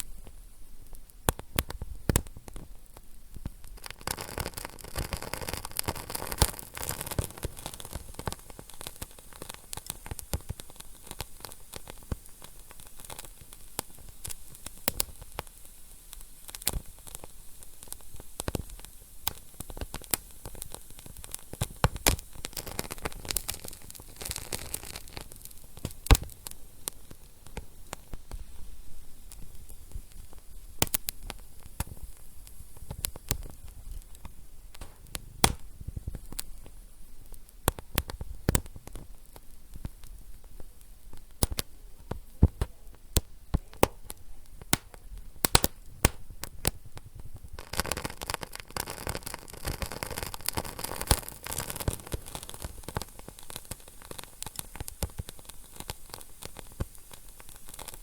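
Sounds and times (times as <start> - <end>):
steady fire hiss: 0.0 - 58.0
wood fire crackling: 0.0 - 58.0.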